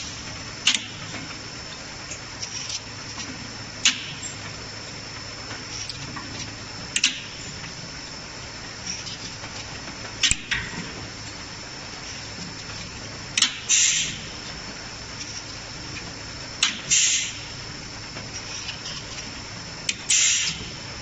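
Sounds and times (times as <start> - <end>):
machine hum and whine: 0.0 - 21.0.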